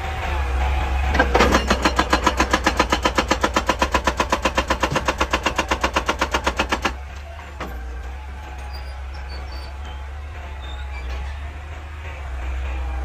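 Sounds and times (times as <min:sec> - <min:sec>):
excavator engine humming: 0:00.0 - 0:13.0
hydraulic breaker hammering rock: 0:00.0 - 0:13.0.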